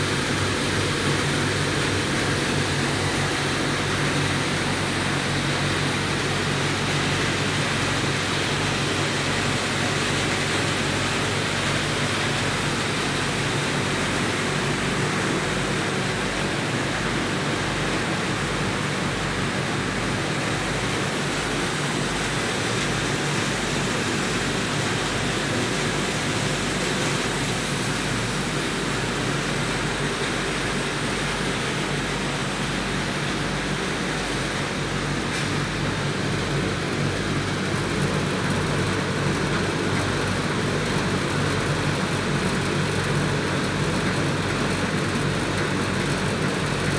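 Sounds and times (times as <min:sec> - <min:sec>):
low machinery hum: 0:00.0 - 0:46.9.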